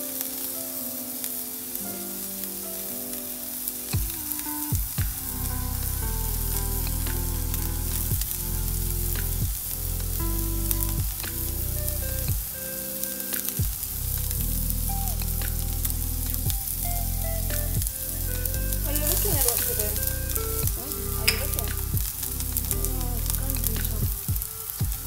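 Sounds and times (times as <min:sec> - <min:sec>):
onions sizzling in a pan: 0:00.0 - 0:25.0
background music with bass line: 0:03.9 - 0:25.0.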